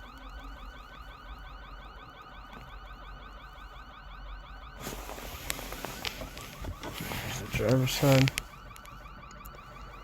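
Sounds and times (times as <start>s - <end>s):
car alarm chirping siren: 0.0s - 10.0s.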